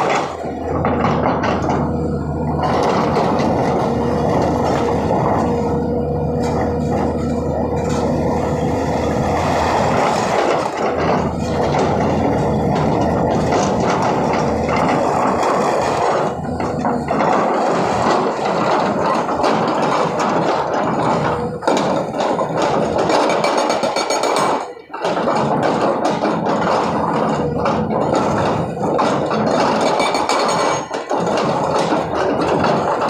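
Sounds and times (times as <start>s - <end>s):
hydraulic rock breaker hammering rock: 0.0s - 33.0s.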